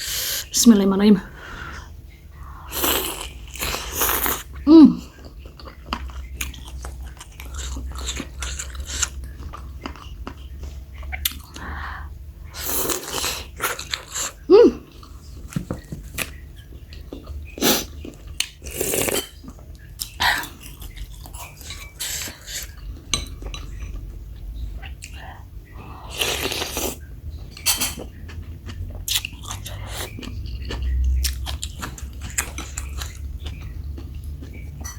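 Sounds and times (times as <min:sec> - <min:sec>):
chewing with wet smacks: 0:04.4 - 0:11.7, 0:13.5 - 0:34.9.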